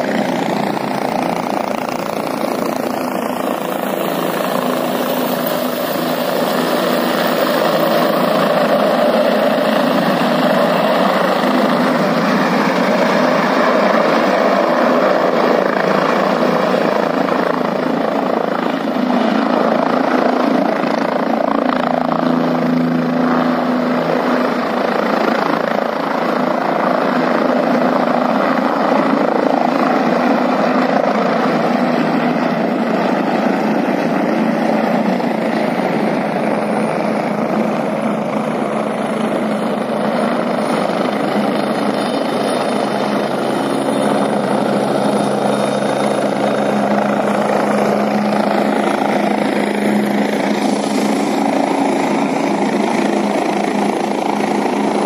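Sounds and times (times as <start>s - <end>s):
helicopter rotor and engine noise: 0.0s - 55.0s.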